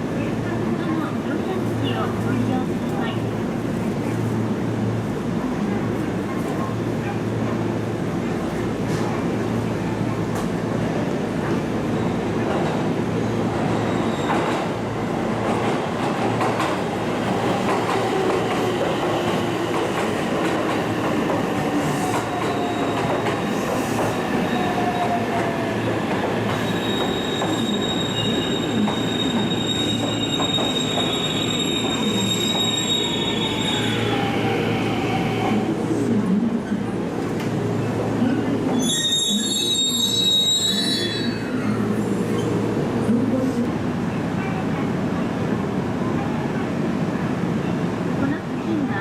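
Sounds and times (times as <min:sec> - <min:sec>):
train rumbling with whining tones: 0:00.0 - 0:49.0.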